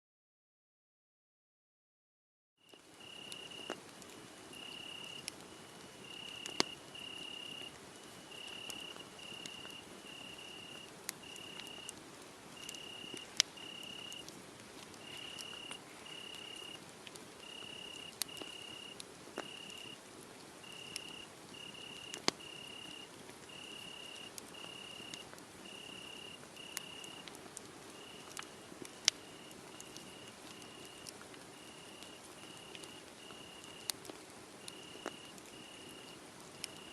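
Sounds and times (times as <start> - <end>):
crickets chirping: 2.6 - 3.8, 4.5 - 14.3, 14.9 - 16.8, 17.4 - 20.0, 20.6 - 27.3, 27.9 - 34.0, 34.6 - 36.9
wood fire crackling: 2.6 - 36.9.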